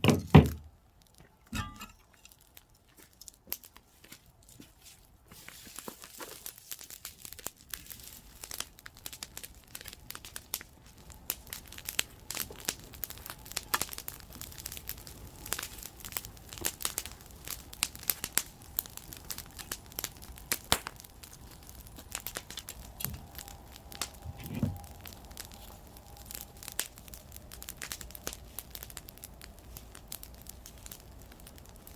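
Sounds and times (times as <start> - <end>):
campfire crackling and popping: 0.0 - 31.9
hiss of burning: 5.3 - 31.9.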